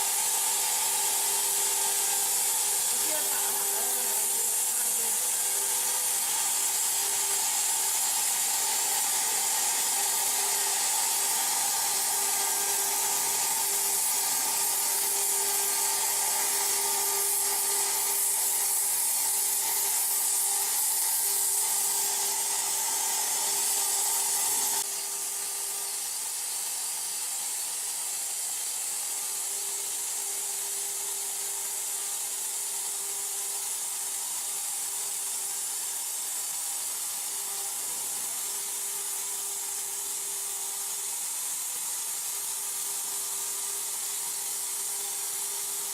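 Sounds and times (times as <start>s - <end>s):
plasma torch cutting steel: 0.0s - 45.9s.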